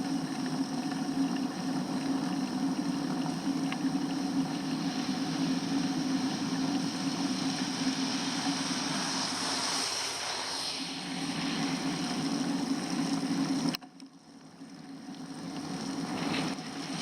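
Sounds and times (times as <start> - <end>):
hiss: 0.0 - 13.8, 15.5 - 17.0.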